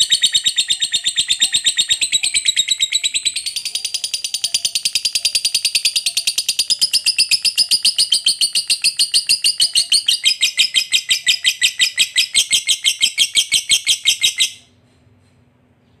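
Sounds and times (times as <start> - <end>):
lovebird chattering: 0.0 - 14.6.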